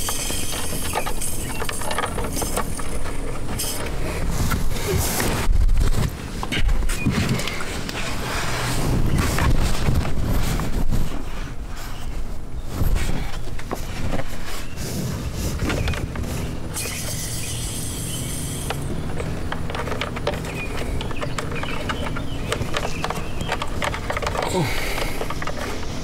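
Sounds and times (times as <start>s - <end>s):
handling knocks and clicks: 0.0s - 12.1s, 12.7s - 26.0s.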